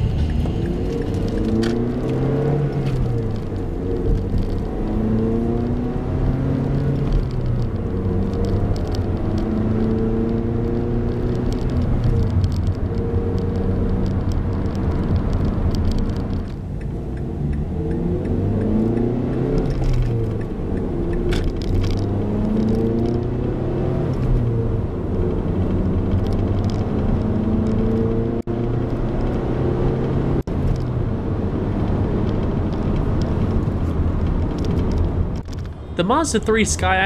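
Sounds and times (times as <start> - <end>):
car engine accelerating through gears: 0.0 - 35.7.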